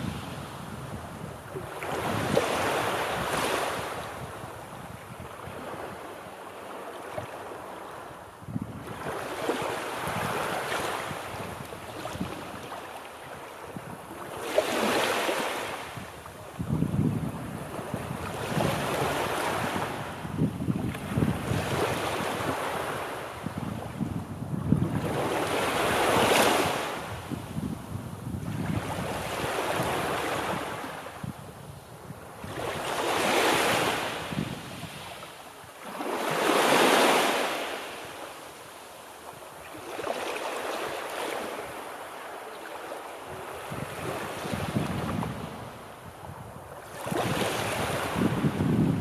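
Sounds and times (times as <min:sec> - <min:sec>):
waves breaking on the shore: 0:00.0 - 0:49.0.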